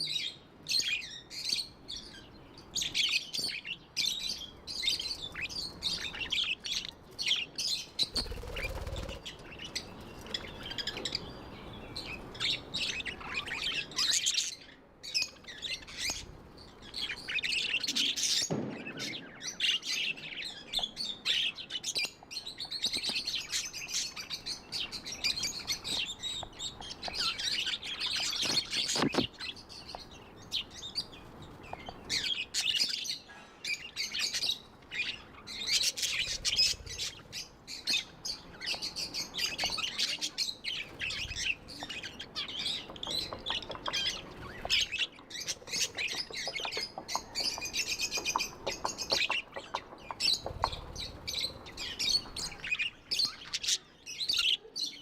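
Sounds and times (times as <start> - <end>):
budgerigars chirping: 0.8 - 20.6, 23.3 - 54.6.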